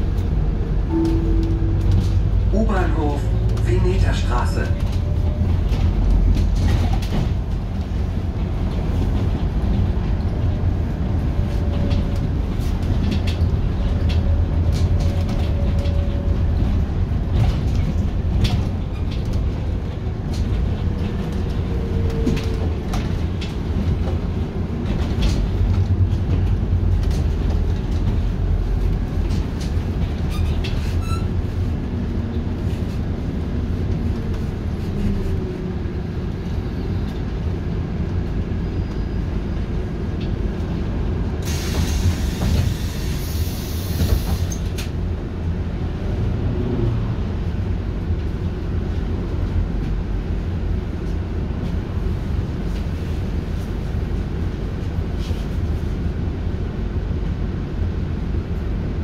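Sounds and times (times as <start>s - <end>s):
bus engine rumble: 0.0s - 59.0s.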